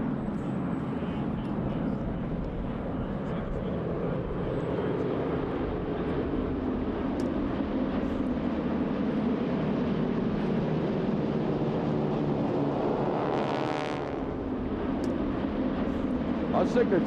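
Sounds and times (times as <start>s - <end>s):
propeller planes flying past: 0.0s - 17.0s.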